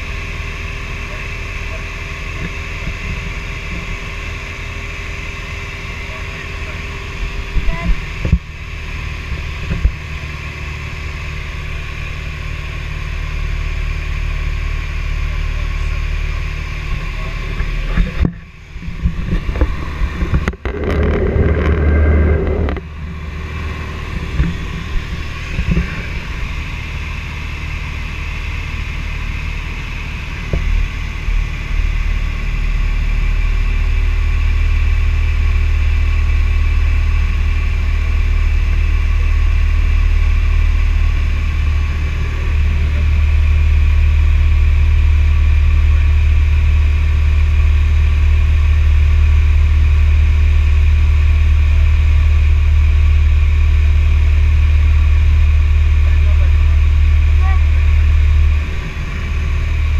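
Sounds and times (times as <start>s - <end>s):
plane engine drone in cabin: 0.0s - 59.9s.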